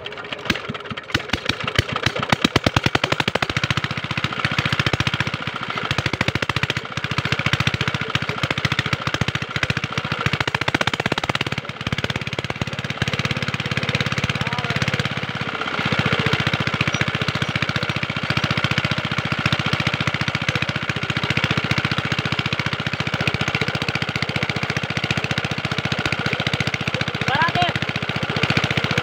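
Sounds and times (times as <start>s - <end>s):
small diesel engine chugging: 0.0s - 29.0s.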